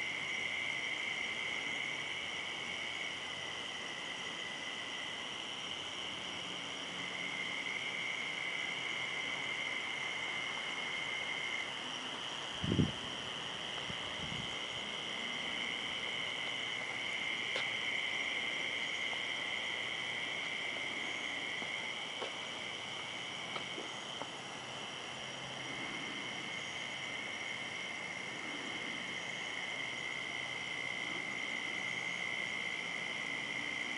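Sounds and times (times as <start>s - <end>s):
crickets chirring: 0.0s - 33.9s.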